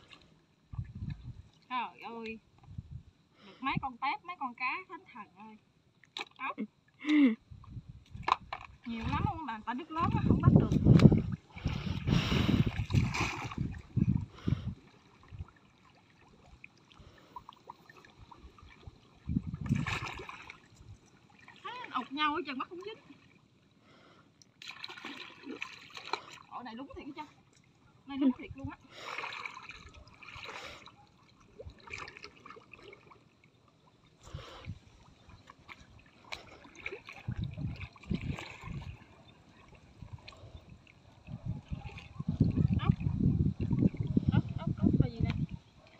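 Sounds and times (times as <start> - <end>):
muddy water sloshing and splashing: 0.0 - 2.9, 5.9 - 45.9.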